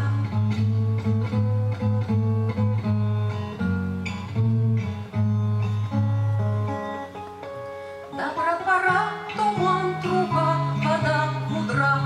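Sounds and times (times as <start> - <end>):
acoustic guitar plucked and strummed: 0.0 - 12.0.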